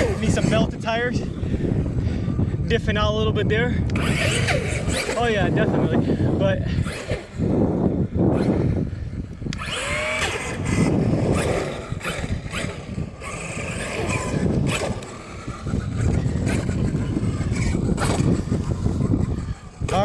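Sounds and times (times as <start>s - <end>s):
electric motor whining: 0.0s - 20.0s
wind rumbling on microphone: 0.0s - 20.0s.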